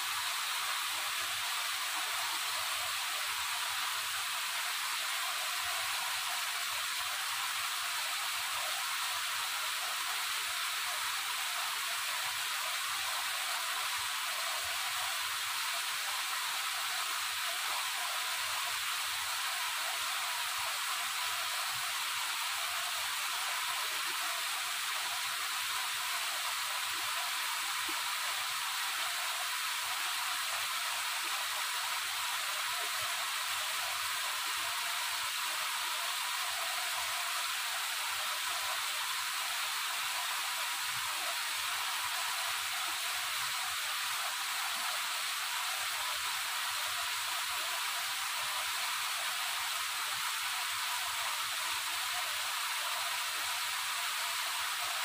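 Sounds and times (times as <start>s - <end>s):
waterfall rushing water: 0.0s - 55.0s.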